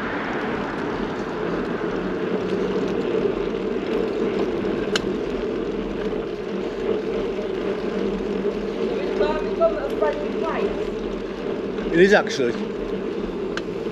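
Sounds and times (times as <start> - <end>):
wind while riding a bike: 0.0 - 13.9.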